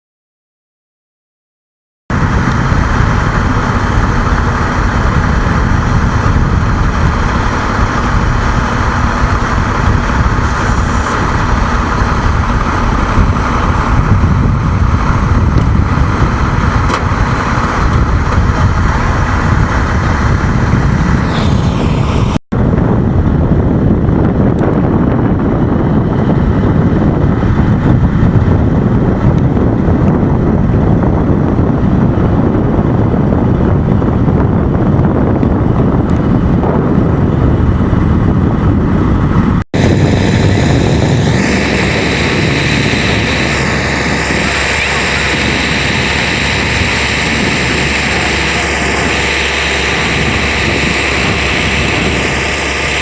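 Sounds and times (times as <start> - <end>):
deeper rumble: 2.1 - 53.0
fire truck engine running: 2.1 - 53.0
wind on microphone: 2.1 - 53.0.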